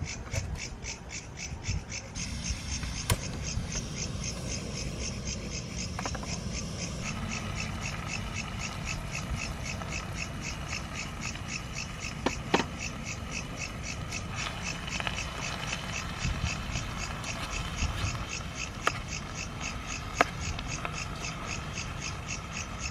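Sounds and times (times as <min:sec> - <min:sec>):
rhythmic chirping: 0:00.0 - 0:22.9.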